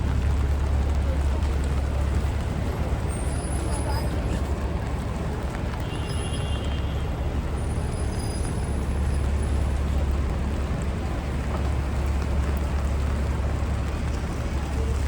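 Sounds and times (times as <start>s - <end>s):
passing vehicles engine rumble: 0.0s - 5.9s, 6.6s - 15.0s
tyres hissing on wet road: 0.0s - 15.0s.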